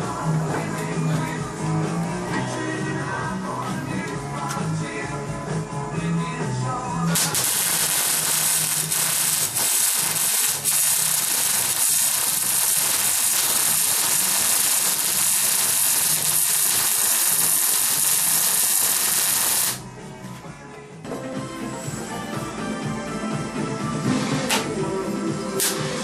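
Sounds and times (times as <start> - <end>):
radio music: 0.0 - 21.2.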